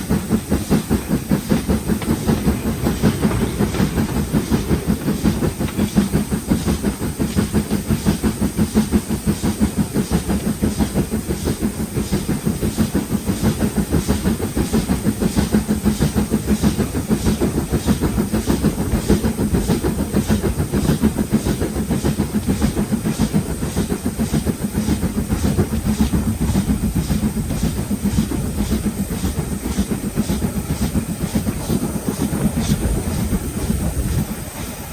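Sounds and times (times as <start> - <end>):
steam locomotive chuffing: 0.0 - 34.9
train rumbling: 0.0 - 34.9.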